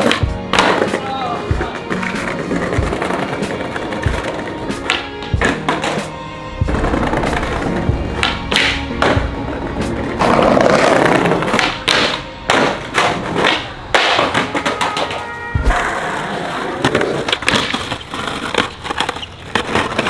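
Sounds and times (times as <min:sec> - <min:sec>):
skateboard clacks and thuds: 0:00.0 - 0:09.4, 0:10.2 - 0:20.0
skateboard rolling on concrete: 0:00.0 - 0:20.0.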